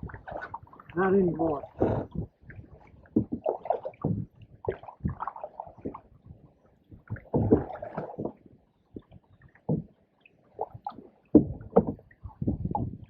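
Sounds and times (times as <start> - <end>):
paddle splashing in water: 0.0 - 6.3, 6.9 - 13.0.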